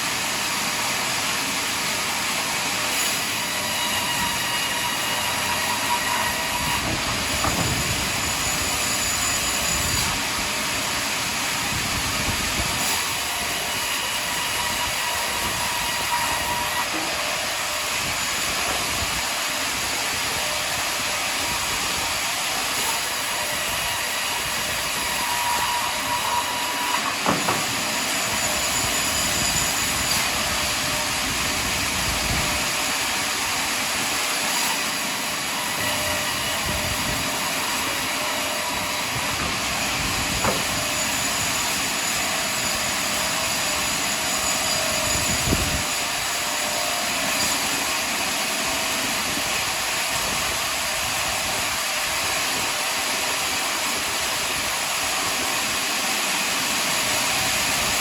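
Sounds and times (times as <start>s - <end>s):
sawmill cutting log: 0.0s - 58.0s.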